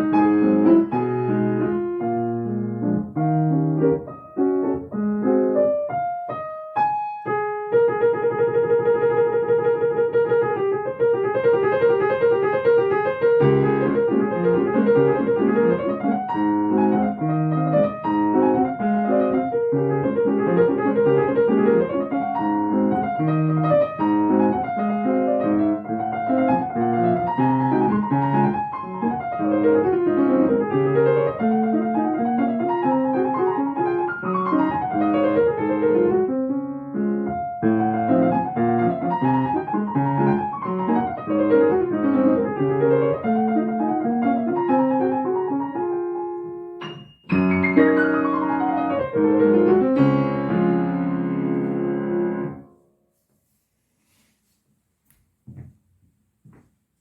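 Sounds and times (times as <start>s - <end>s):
fast solo piano piece: 0.0s - 52.7s.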